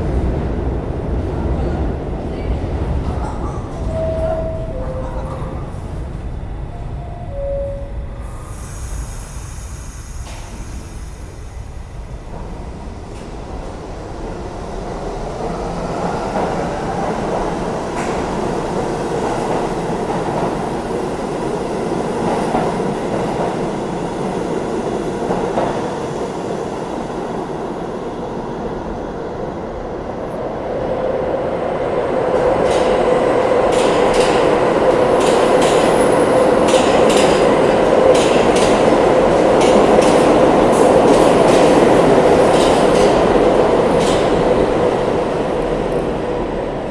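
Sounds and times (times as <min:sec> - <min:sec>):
subway train accelerating: 0:00.0 - 0:46.9
train passing at speed: 0:00.0 - 0:46.9.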